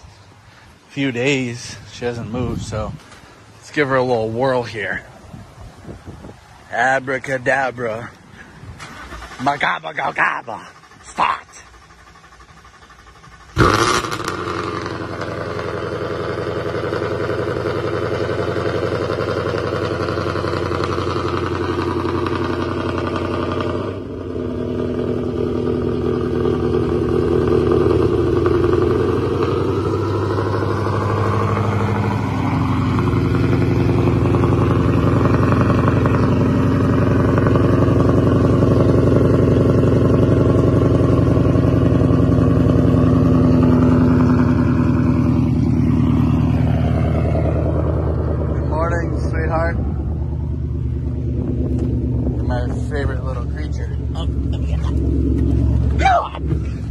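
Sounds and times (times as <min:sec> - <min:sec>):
car engine starting and idling: 0:00.0 - 0:56.9.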